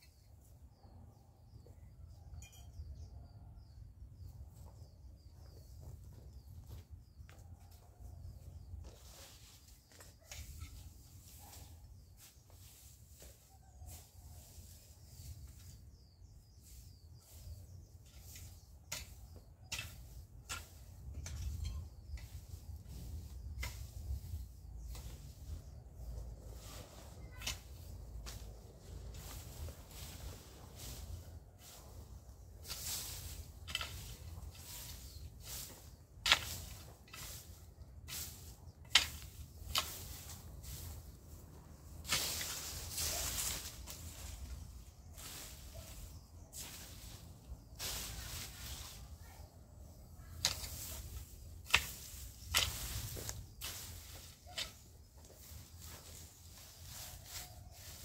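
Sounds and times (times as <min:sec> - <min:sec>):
rake scraping dry grass: 0:08.4 - 0:58.0.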